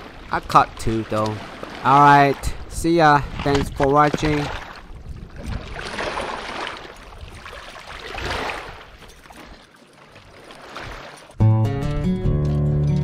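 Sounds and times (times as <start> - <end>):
splashing: 0.0 - 11.4
water lapping against rocks: 0.0 - 11.4.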